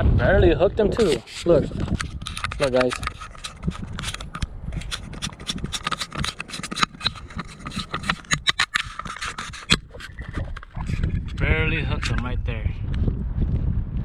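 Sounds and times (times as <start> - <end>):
handling noise scraping and clicking: 1.0 - 12.3.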